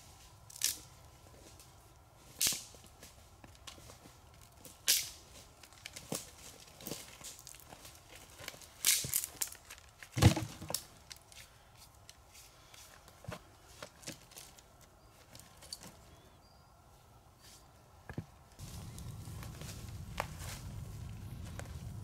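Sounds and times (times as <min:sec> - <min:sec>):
crackles and rustles: 0:00.0 - 0:16.2, 0:18.4 - 0:22.0.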